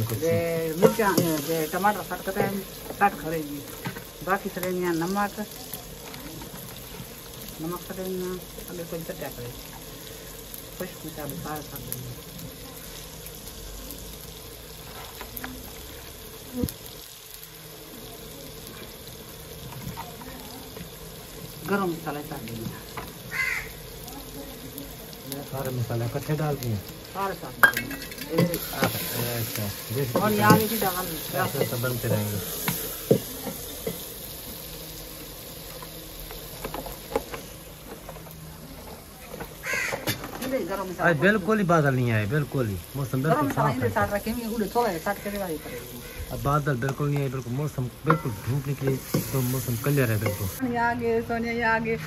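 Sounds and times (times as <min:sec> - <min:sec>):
food sizzling in a pot: 0:00.0 - 0:52.0.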